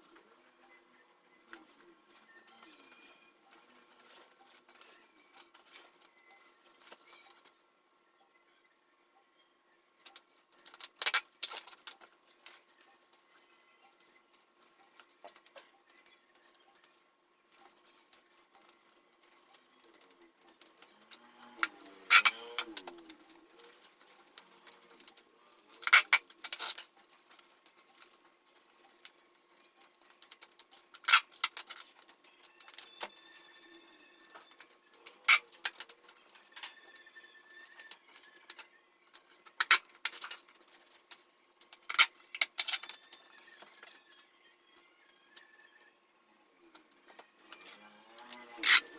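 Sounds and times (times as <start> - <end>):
sharp crinkles: 1.5 - 7.5, 10.5 - 44.0, 47.1 - 48.9.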